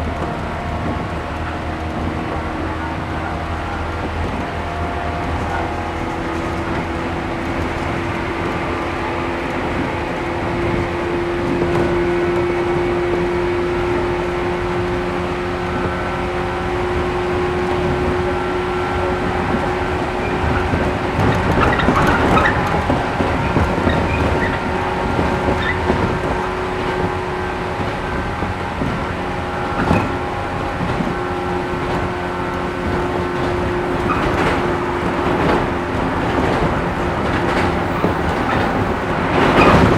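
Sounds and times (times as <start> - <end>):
train traction motor hum: 0.0 - 39.9
train wheels rumbling: 0.0 - 39.9
wheels clicking over rail joints: 0.0 - 39.9.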